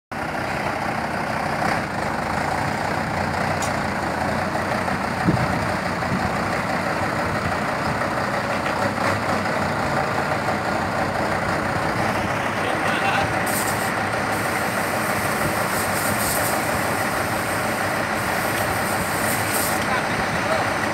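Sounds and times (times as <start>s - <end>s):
dump truck diesel engine running: 0.1s - 20.9s.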